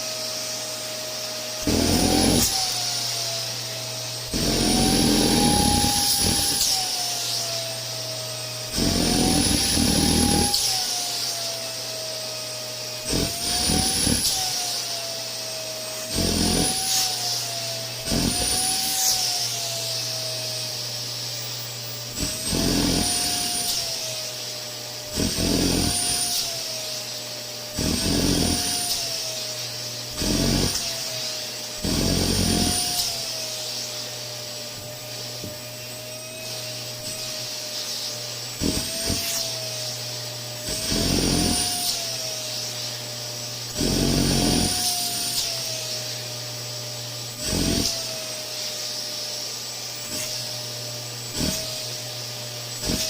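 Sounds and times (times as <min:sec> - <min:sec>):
vacuum cleaner motor whine: 0:00.0 - 0:53.0.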